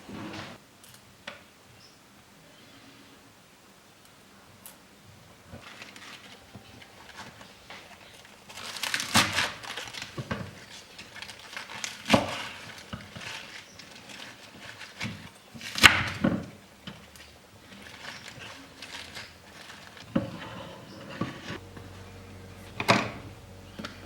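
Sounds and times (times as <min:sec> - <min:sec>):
rustling and crinkling: 0:04.5 - 0:24.0.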